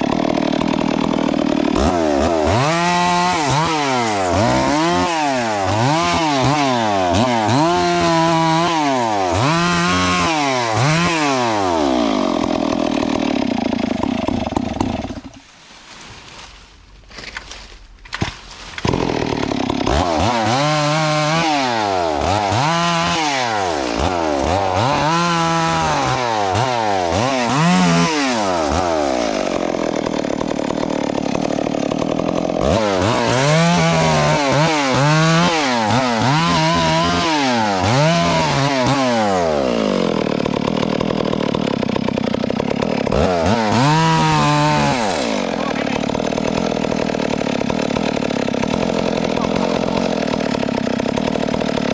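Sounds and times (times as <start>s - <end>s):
chainsaw revving: 0.0s - 15.5s, 18.1s - 51.9s.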